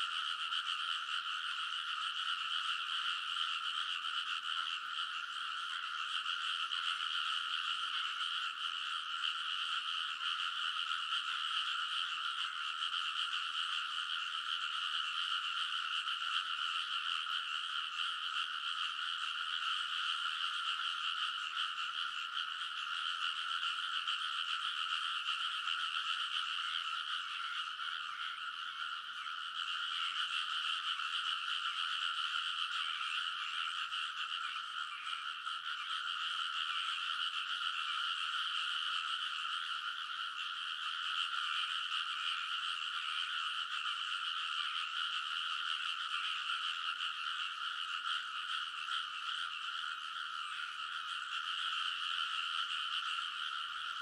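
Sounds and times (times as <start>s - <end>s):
chorus of frogs croaking: 0.0s - 54.0s.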